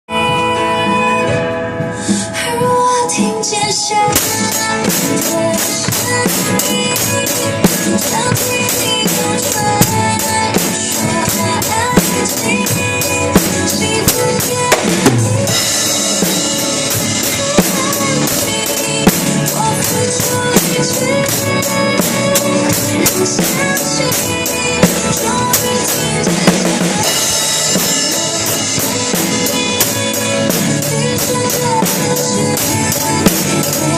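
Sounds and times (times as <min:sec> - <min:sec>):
drum kit playing a steady beat: 0:00.1 - 0:33.9
pop ballad backing track: 0:00.1 - 0:33.9.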